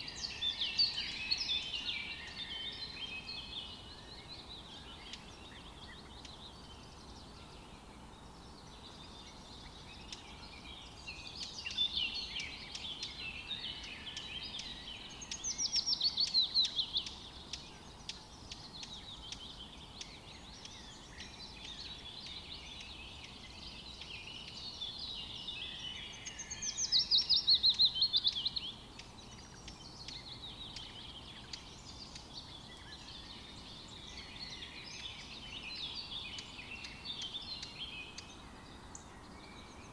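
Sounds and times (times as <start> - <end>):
bird song of rapid falling notes: 0.0 - 39.9
faint steady background hiss: 0.0 - 39.9
wild birds singing and calling: 0.0 - 39.9.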